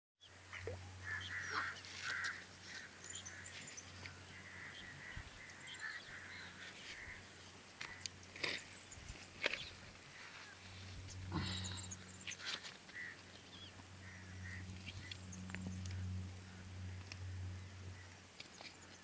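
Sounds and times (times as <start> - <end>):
birds calling: 0.2 - 19.0
low steady hum: 0.2 - 19.0.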